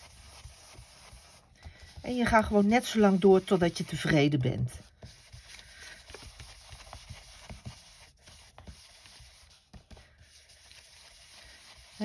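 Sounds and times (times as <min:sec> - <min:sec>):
foam tool rubbing on cardstock: 0:00.0 - 0:12.0.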